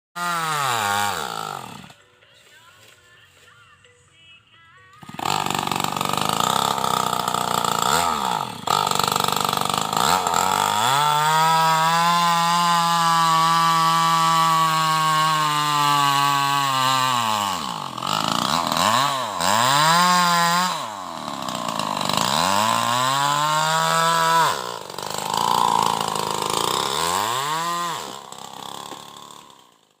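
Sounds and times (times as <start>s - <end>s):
chainsaw cutting wood: 0.2s - 2.0s, 5.0s - 30.0s.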